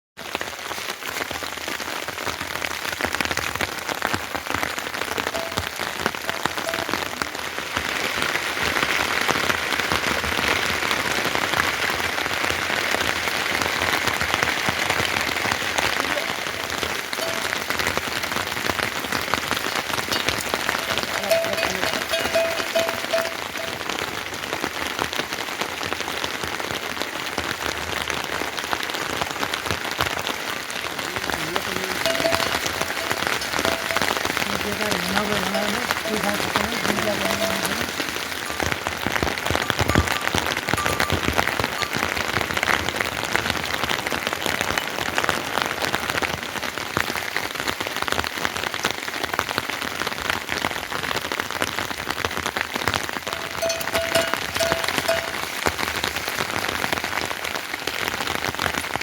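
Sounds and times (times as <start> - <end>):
heavy rain falling: 0.2 - 59.0.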